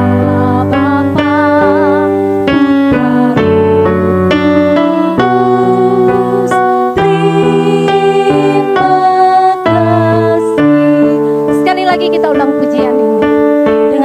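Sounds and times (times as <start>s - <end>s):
electric keyboard chords: 0.0s - 14.0s.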